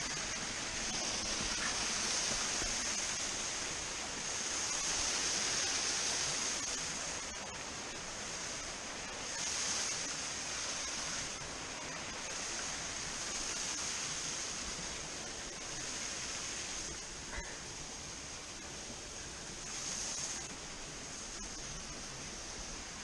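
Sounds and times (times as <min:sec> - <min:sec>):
small waterfall rushing: 0:00.0 - 0:23.0.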